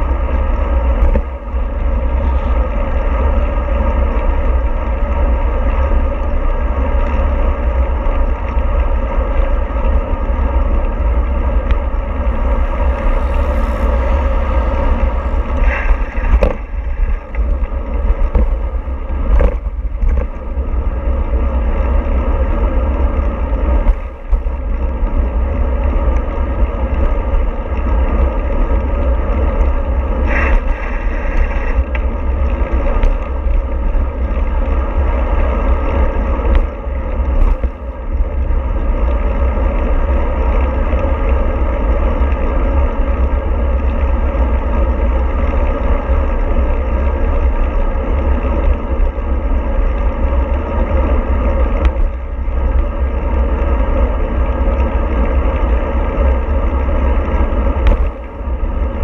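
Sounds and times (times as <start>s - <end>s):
vehicle rumble: 0.0s - 59.0s.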